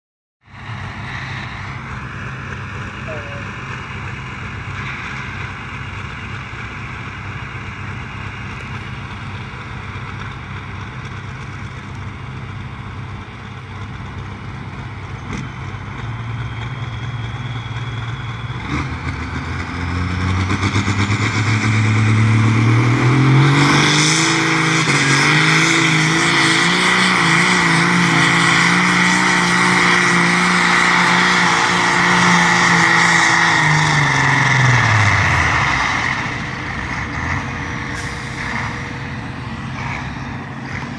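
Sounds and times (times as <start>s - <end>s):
diesel tractor engine revving: 0.5s - 40.9s.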